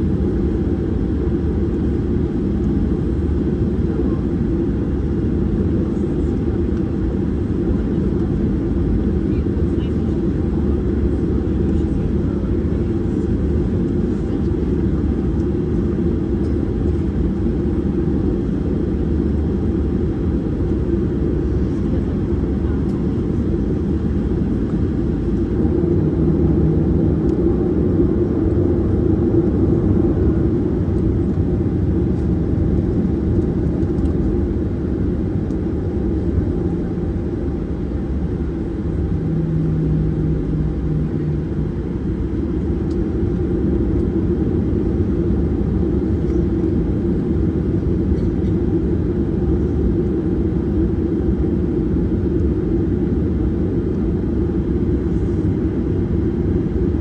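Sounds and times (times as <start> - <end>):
jet engines and airflow rush: 0.0 - 57.0.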